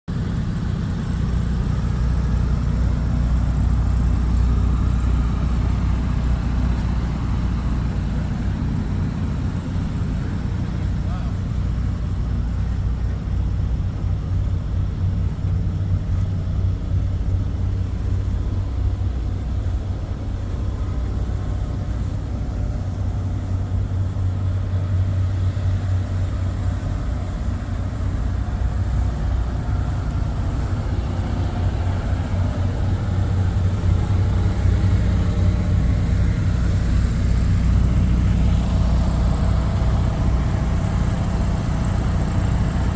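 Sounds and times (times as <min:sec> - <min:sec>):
truck engine running: 0:00.0 - 0:42.9.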